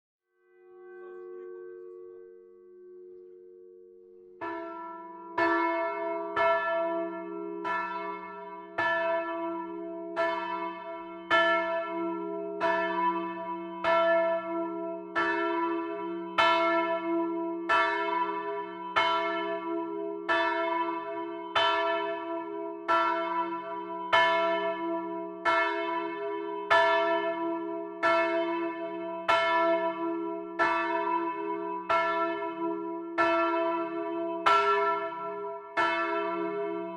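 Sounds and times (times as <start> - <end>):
church bell ringing: 0.5 - 36.9.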